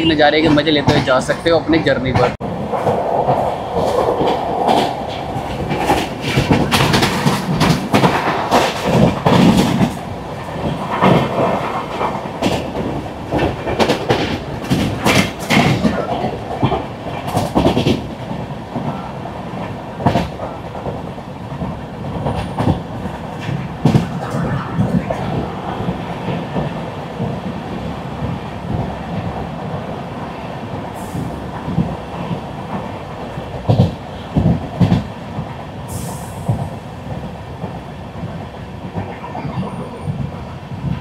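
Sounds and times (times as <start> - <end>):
train wheels rumbling on rail: 0.0 - 41.0
wheels clacking over rail joints: 0.0 - 41.0.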